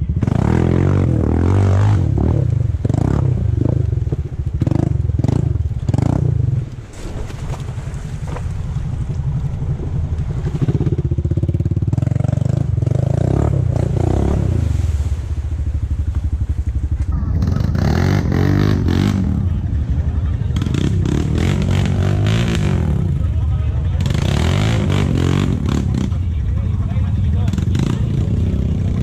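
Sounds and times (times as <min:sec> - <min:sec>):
quad engine under throttle: 0:00.0 - 0:06.8, 0:08.0 - 0:29.0
water splashing: 0:02.0 - 0:29.0.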